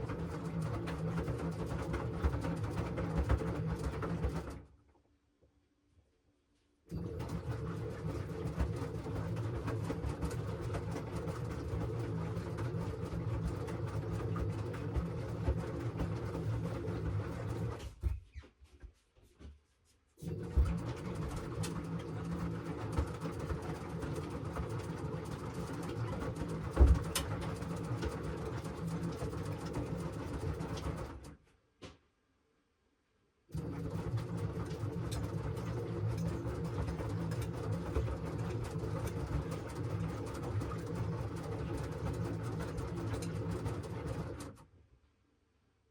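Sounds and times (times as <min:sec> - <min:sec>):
washing machine motor hum: 0:00.0 - 0:04.7, 0:06.9 - 0:18.2, 0:20.2 - 0:31.4, 0:33.5 - 0:44.6.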